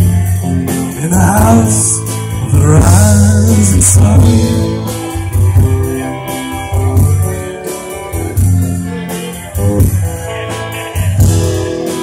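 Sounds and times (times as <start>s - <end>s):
bass guitar: 0.0s - 12.0s
drum kit beat: 0.0s - 12.0s
electric guitars: 0.0s - 12.0s.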